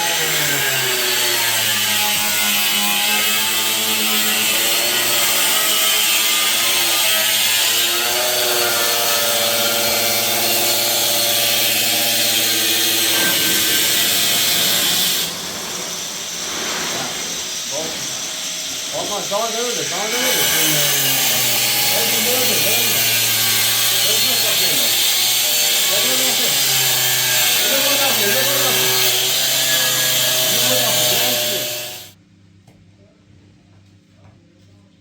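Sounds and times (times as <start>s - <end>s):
power tool running: 0.0s - 32.2s.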